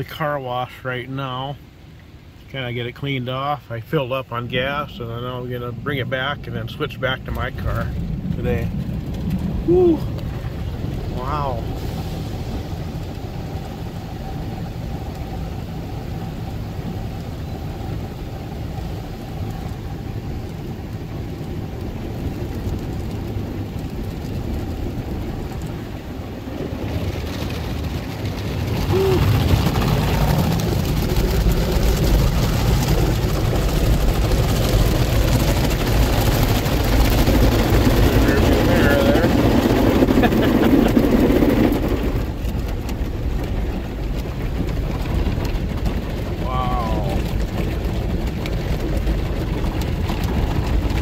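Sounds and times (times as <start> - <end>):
car wash brushes and water: 0.0 - 51.0.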